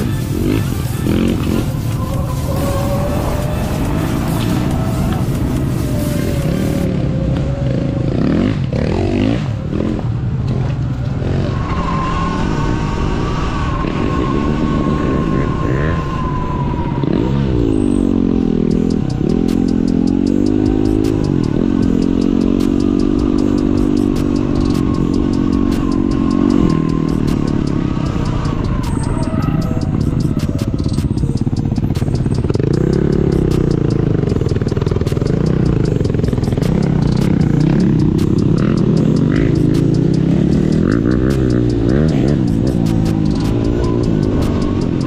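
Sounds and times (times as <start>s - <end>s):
off-road motorcycle engine revving: 0.0s - 45.0s.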